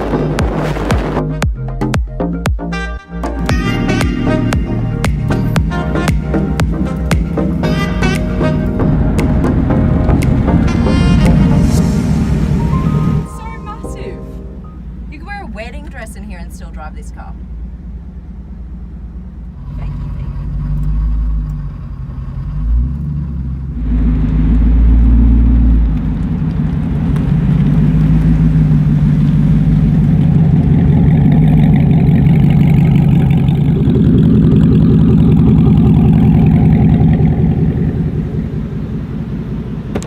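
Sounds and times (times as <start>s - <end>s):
supercar engine revving: 0.0s - 40.0s.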